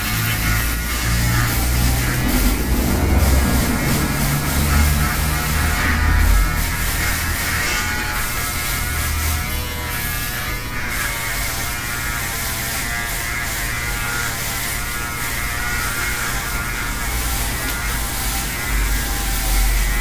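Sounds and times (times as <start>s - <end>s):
electric shaver buzzing: 0.0s - 20.0s.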